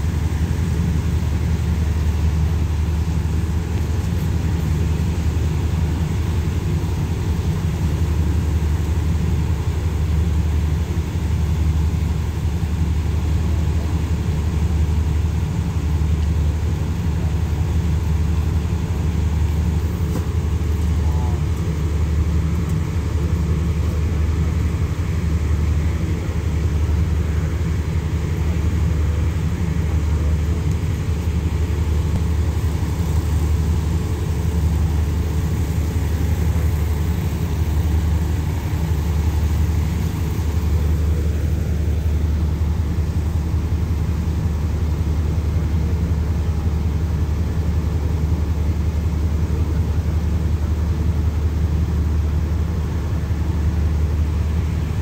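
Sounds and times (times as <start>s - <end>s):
train diesel engines idling: 0.0s - 55.0s.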